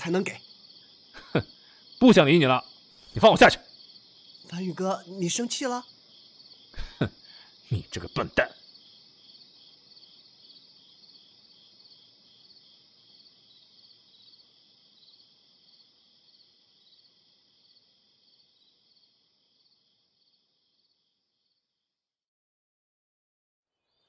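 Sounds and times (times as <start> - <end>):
crickets chirping: 0.0 - 21.8.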